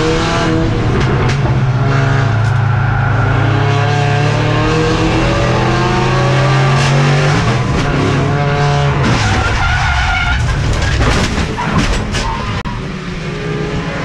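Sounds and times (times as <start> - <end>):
race car engine: 0.0 - 14.0
tyres skidding: 0.0 - 14.0.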